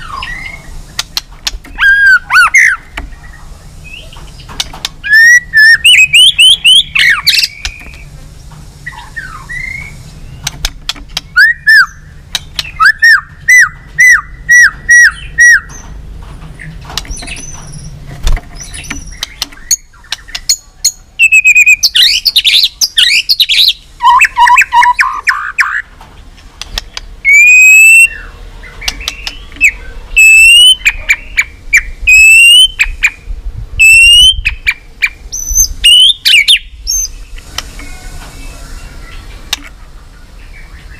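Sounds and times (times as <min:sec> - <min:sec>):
songbird singing whistled notes: 0:00.0 - 0:01.0, 0:01.6 - 0:08.1, 0:08.8 - 0:10.6, 0:11.2 - 0:15.9, 0:18.6 - 0:25.8, 0:27.2 - 0:39.3.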